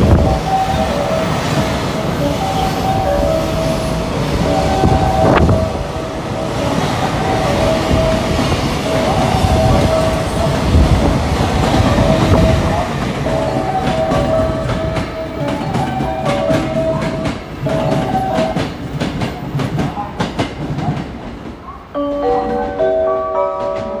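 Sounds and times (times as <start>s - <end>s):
freight train wheels clacking: 0.0s - 24.0s.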